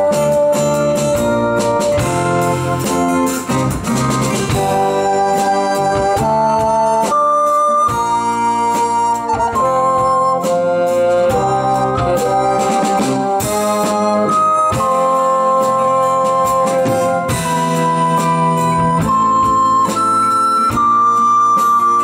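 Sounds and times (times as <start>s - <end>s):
bassoon melody: 0.0s - 22.0s
live folk-rock band: 0.0s - 22.0s
plucked or struck notes: 0.0s - 22.0s.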